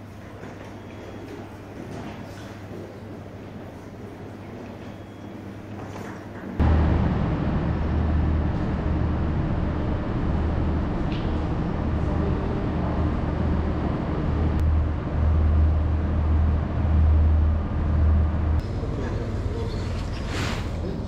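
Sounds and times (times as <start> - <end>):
station concourse low hum: 0.0 - 21.0.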